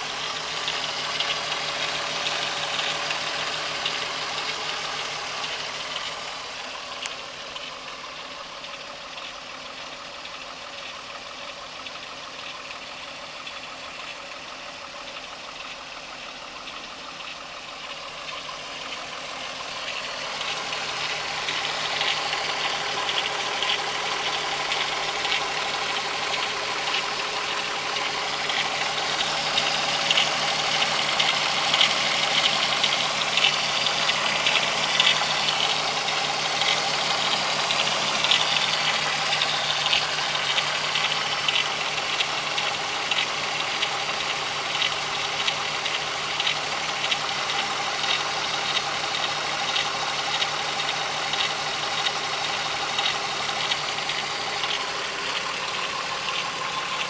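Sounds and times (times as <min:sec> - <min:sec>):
car engine idling with ticking: 0:00.0 - 0:57.0.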